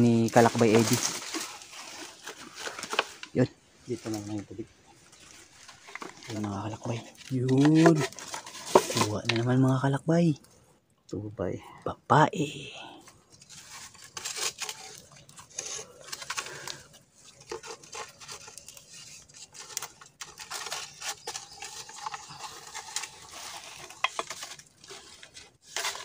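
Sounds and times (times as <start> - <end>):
bamboo scraping in mud: 0.0 - 10.0, 12.9 - 26.0.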